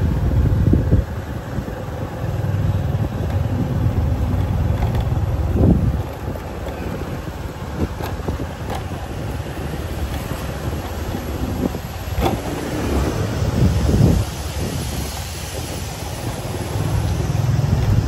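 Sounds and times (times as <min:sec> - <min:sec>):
motorbike engine rumble: 0:00.0 - 0:18.0
street traffic: 0:00.0 - 0:18.0.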